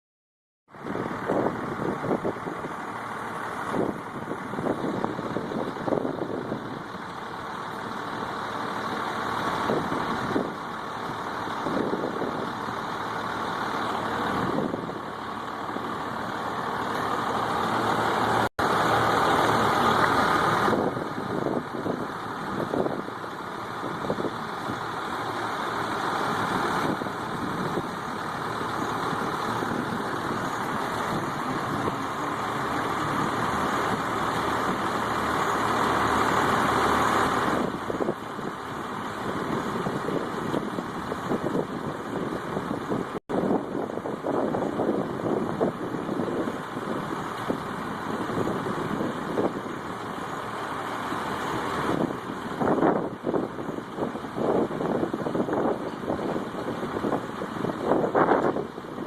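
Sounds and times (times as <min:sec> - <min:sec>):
street sweeper running: 0:00.7 - 0:59.0.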